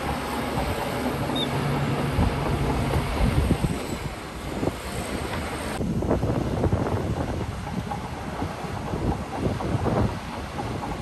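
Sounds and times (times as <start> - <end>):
diesel engine of heavy machinery: 0.0 - 11.0
wind rumbling on microphone: 0.0 - 11.0.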